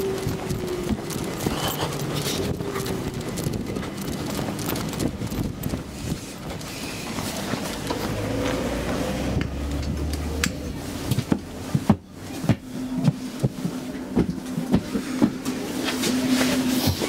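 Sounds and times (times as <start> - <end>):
train humming: 0.0 - 17.0.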